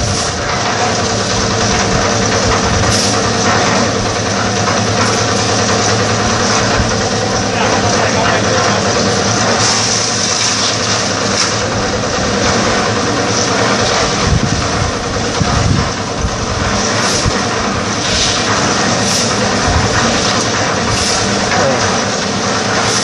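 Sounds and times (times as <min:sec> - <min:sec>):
concrete mixer engine running: 0:00.0 - 0:23.0.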